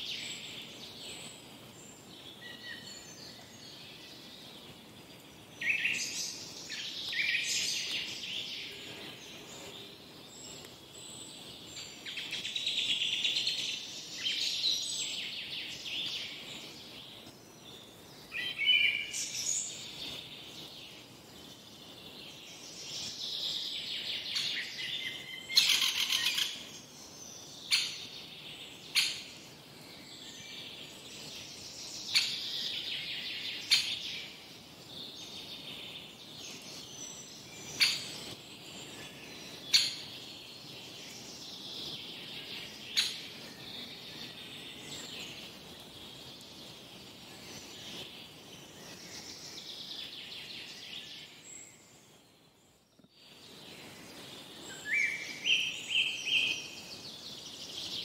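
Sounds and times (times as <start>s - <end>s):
woodland birds singing: 0.0s - 58.0s.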